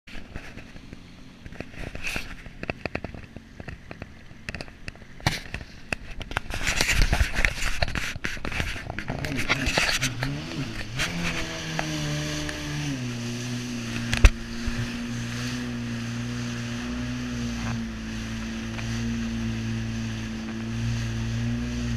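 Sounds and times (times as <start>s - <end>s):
jet ski engine: 0.1s - 21.9s
rushing water: 0.1s - 21.9s
wind against camera: 0.1s - 21.9s.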